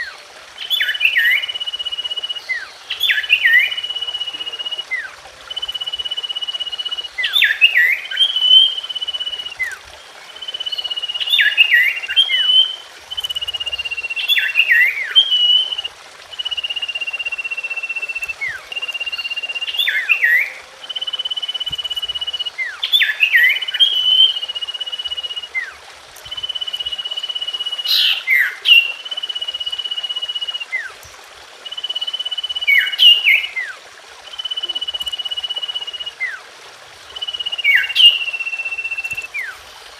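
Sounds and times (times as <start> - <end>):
bird whistling and chirping: 0.6 - 31.0, 31.6 - 36.4, 37.1 - 39.6.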